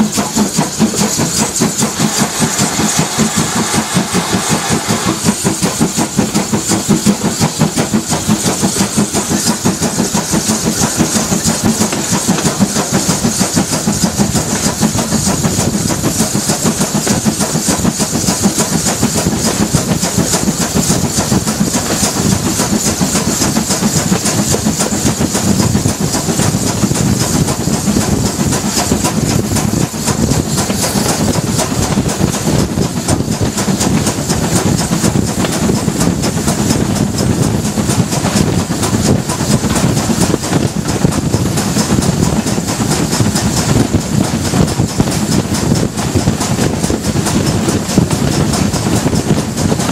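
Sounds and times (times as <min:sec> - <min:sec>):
constant steam hiss: 0:00.0 - 0:49.9
steam locomotive exhaust chuffs: 0:00.0 - 0:49.9
wheels clattering over rails: 0:00.0 - 0:49.9.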